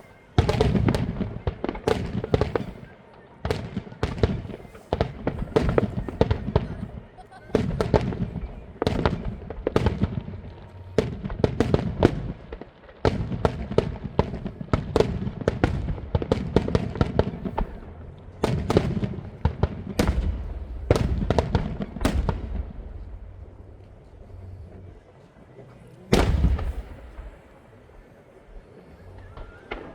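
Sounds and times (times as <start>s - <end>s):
fireworks banging: 0.0s - 25.1s, 26.1s - 29.9s.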